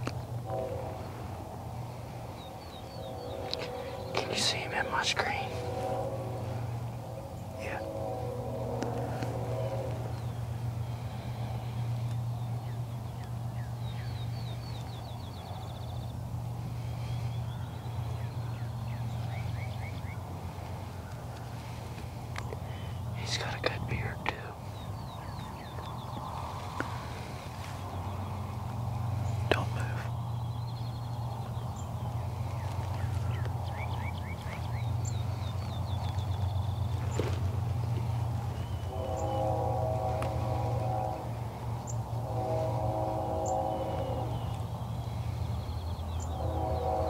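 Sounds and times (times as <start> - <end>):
songbirds singing: 0.0 - 47.0
steady low hum: 0.0 - 47.0.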